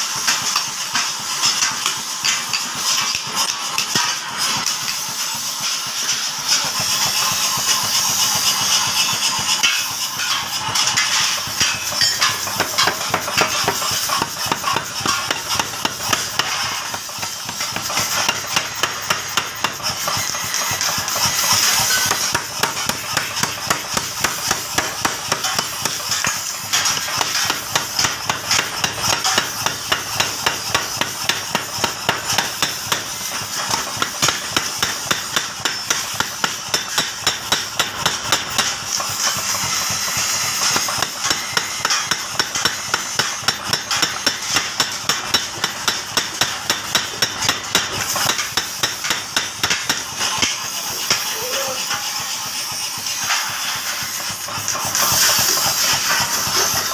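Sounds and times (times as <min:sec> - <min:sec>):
forge fire hissing: 0:00.0 - 0:56.9
power hammer pounding steel: 0:00.0 - 0:56.9.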